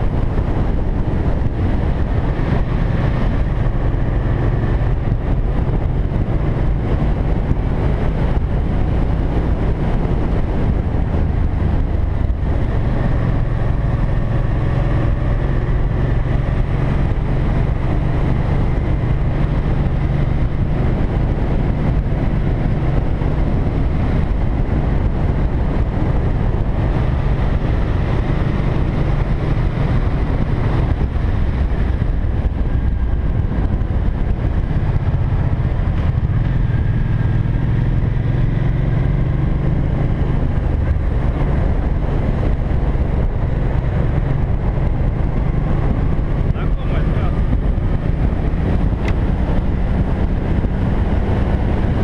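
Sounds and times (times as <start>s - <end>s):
motorcycle engine hum: 0.0s - 52.0s
wind rushing over microphone: 0.0s - 52.0s.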